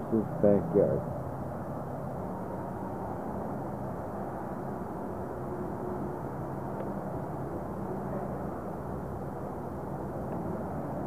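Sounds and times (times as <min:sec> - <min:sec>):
freeway traffic roar: 0:00.0 - 0:11.0.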